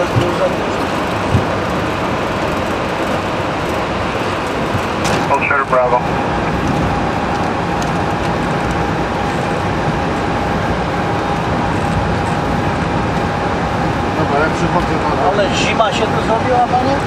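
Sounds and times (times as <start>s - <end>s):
jet cabin rumble and hiss: 0.0s - 17.0s
thin steady whine: 0.0s - 17.0s.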